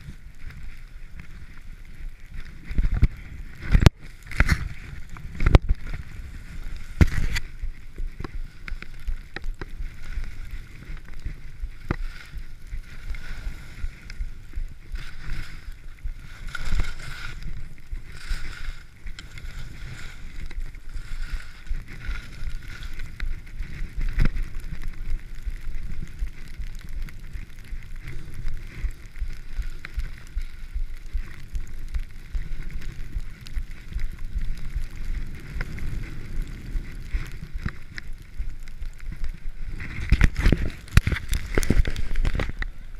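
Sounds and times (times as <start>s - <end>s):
skis swishing through powder snow: 0.0s - 42.9s
wind buffeting microphone: 0.0s - 42.9s.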